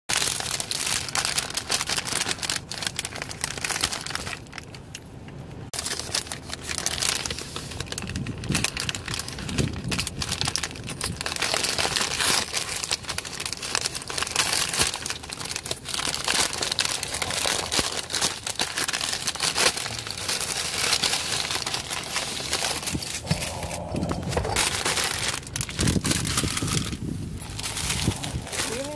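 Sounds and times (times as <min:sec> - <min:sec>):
paper bag crinkling: 0:00.1 - 0:05.0, 0:05.7 - 0:28.9.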